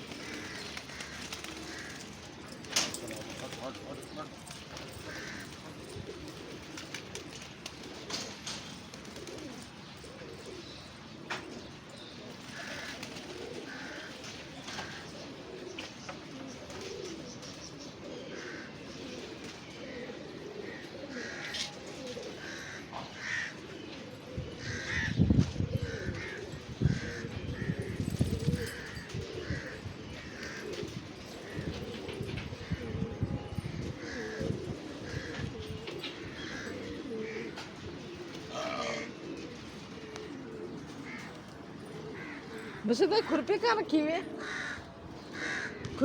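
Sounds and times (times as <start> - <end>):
pigeons cooing: 0.0 - 46.0.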